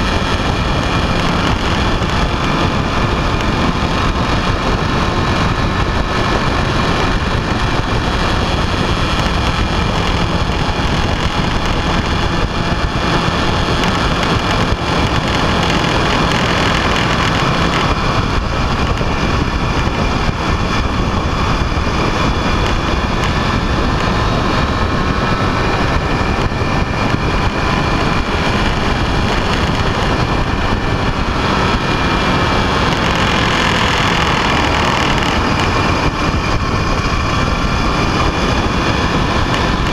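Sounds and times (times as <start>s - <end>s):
faint engine tones: 0.0s - 39.9s
wind and road rush: 0.0s - 39.9s.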